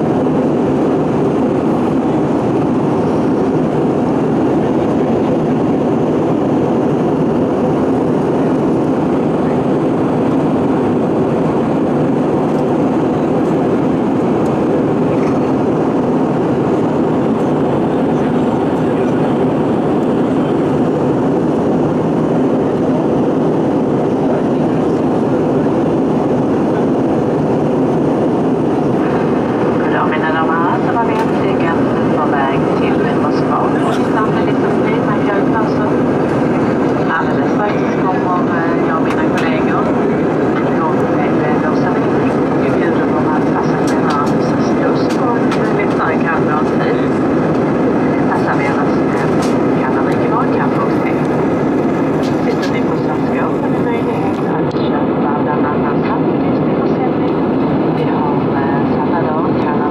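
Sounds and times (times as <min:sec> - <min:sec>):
airliner cabin engine and airflow noise: 0:00.0 - 0:59.9.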